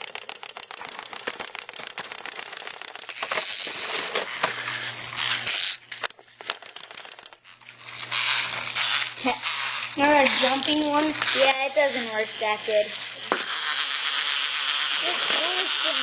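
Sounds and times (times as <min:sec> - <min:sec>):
clockwork toy clicking: 0:00.0 - 0:16.0
whirring rattle: 0:00.0 - 0:16.0.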